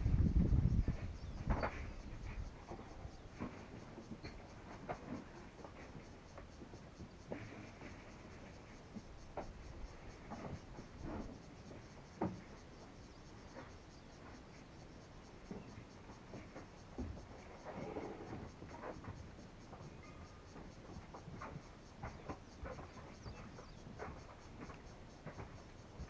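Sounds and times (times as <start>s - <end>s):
quiet outdoor background: 0.0s - 26.0s.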